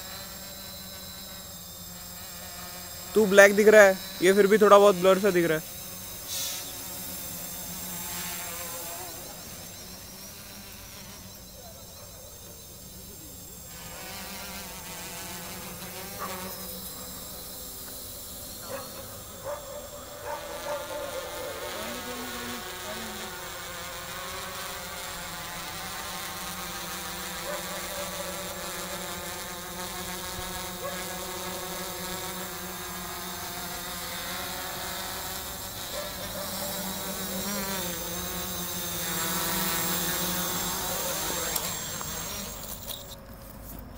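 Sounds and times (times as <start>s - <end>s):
drone propellers buzzing: 0.0s - 43.9s.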